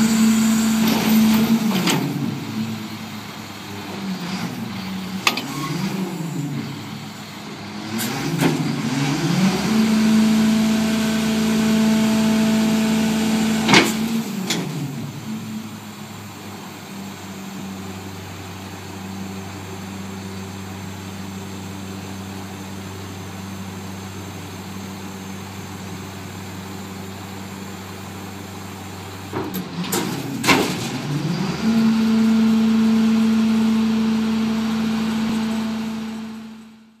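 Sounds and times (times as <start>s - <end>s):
diesel truck engine running: 0.0s - 37.0s
hydraulic packer whine: 0.0s - 37.0s.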